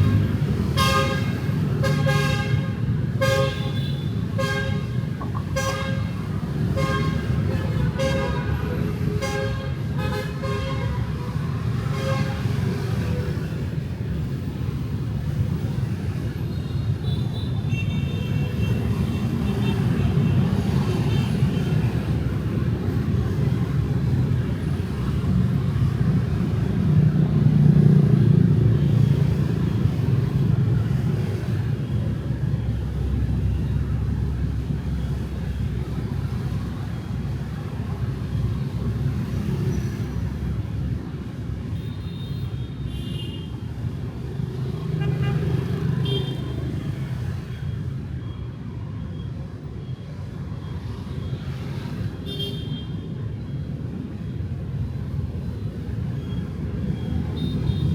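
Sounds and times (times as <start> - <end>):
street traffic rumble: 0.0 - 57.9.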